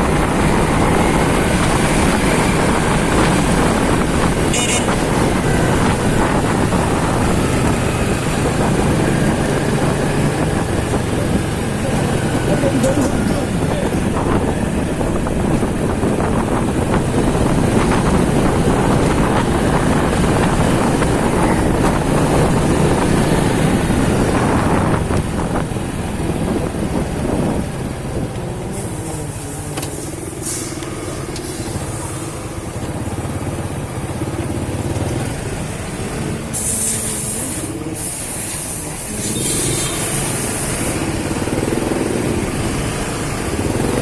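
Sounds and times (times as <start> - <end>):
motorcycle engine: 0.0 - 44.0
road noise: 0.0 - 44.0
wind noise: 0.0 - 44.0.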